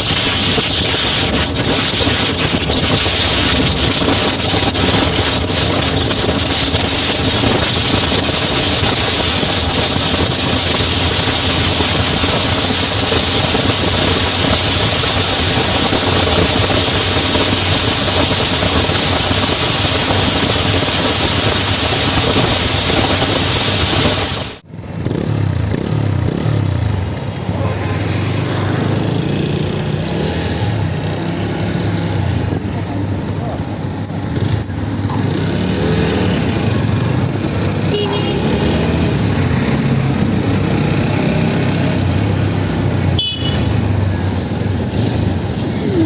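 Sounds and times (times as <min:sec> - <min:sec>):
constant rushing noise: 0:00.0 - 0:46.0
motorcycle engine running: 0:00.0 - 0:46.0.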